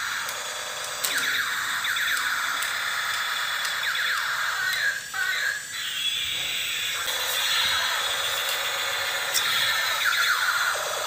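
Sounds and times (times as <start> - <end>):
toy shooting sound effects: 0.0 - 11.0.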